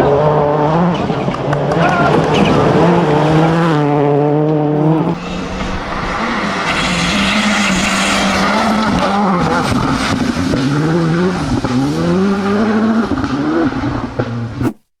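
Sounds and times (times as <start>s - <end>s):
rally car engine revving: 0.0s - 14.7s.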